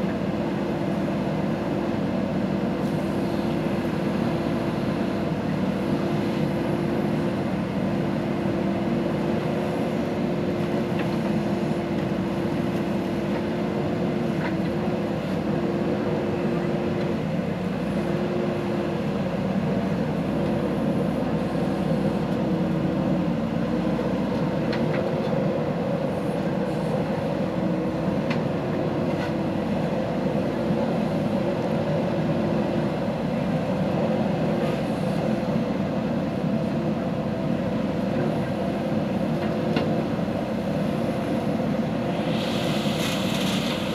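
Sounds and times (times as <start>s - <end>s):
diesel engine under load: 0.0s - 43.9s.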